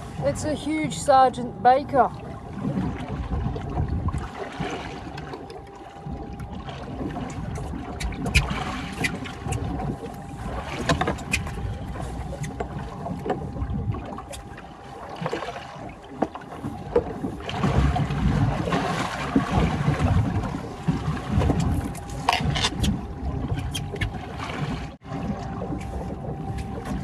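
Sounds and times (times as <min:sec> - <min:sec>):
water sloshing against boat hull: 0:00.0 - 0:27.0.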